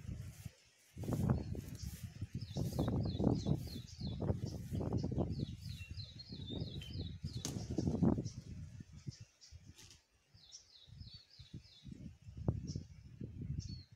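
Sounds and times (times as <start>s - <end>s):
small bird chirping: 0.3s - 12.0s.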